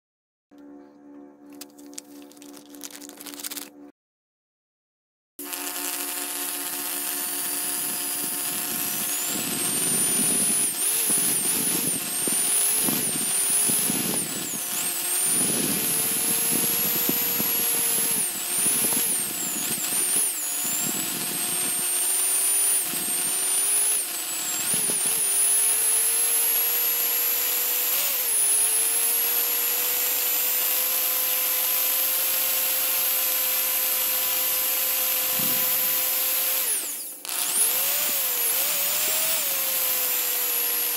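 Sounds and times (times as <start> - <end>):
electric whisk motor: 5.4 - 40.9.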